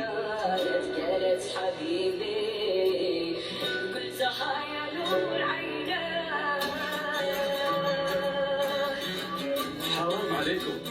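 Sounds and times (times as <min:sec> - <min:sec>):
musical accompaniment: 0:00.0 - 0:10.9.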